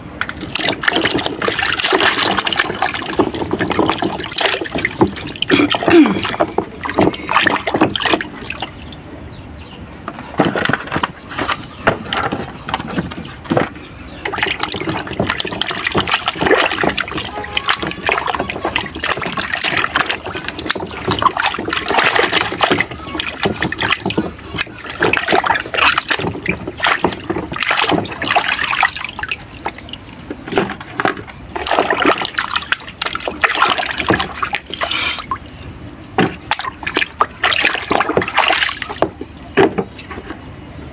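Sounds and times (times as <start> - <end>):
water splashing and trickling: 0.0 - 40.9.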